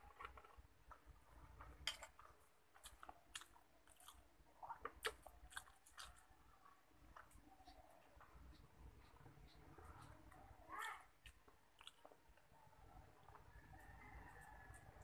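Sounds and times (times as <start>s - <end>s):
chewing food: 0.0s - 10.5s, 11.1s - 15.0s.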